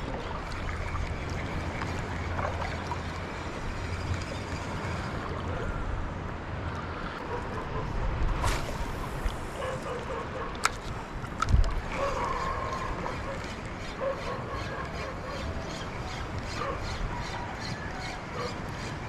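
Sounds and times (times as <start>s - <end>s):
water sloshing: 0.0s - 16.9s.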